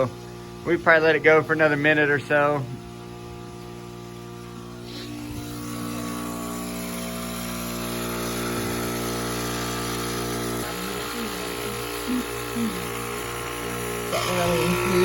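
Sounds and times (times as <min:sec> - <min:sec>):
vacuum pump motor hum: 0:00.0 - 0:15.0.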